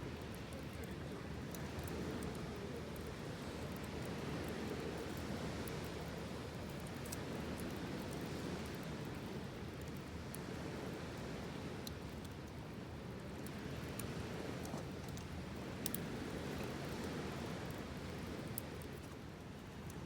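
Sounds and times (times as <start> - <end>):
faint ticks and crackles: 0.0 - 20.0.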